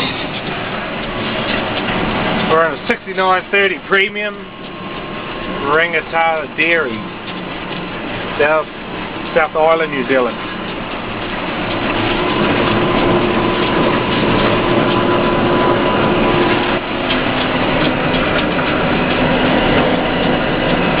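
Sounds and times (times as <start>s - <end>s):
steady whine: 0.0s - 21.0s
tractor diesel engine running: 0.0s - 21.0s.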